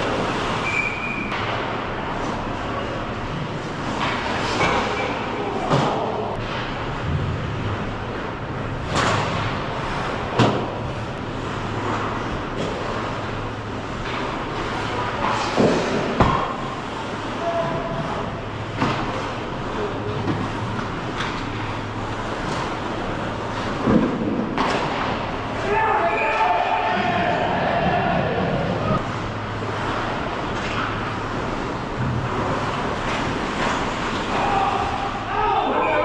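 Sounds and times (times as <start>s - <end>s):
steady rink hum: 0.0s - 36.0s.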